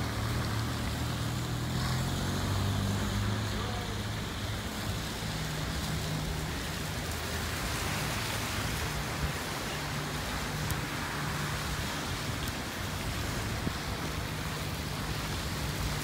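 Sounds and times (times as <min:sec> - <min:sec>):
rain on a wet street: 0:00.0 - 0:16.0.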